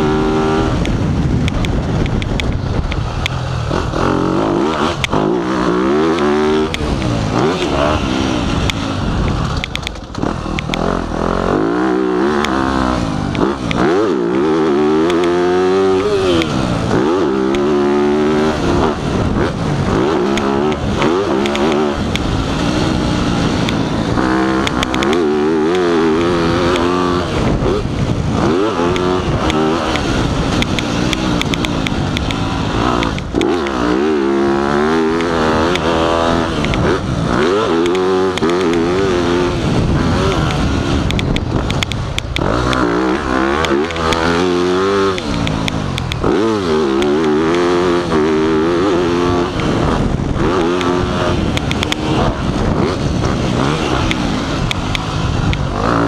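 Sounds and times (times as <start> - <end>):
dirt bike engine revving: 0.0 - 56.0
wind on microphone: 0.0 - 56.0.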